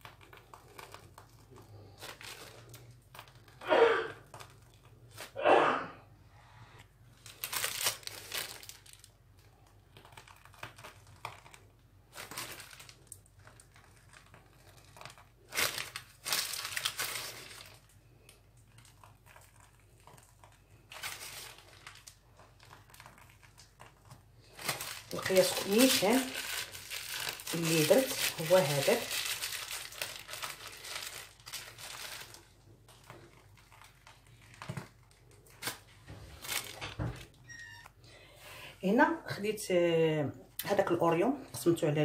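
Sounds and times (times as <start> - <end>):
plastic piping bag crinkling: 0.0 - 5.4, 6.8 - 38.0.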